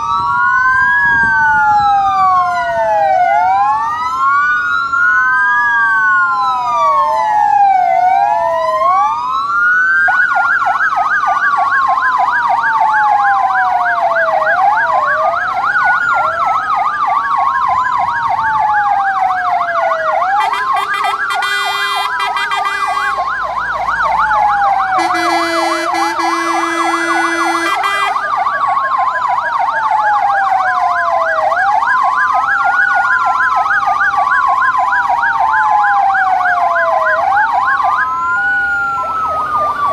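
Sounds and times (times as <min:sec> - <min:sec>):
fire engine sirens wailing: 0:00.0 - 0:39.9.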